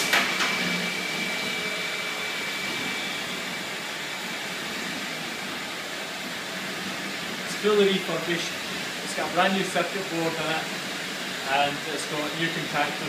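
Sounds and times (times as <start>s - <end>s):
dishwasher spraying water: 0.0s - 13.0s.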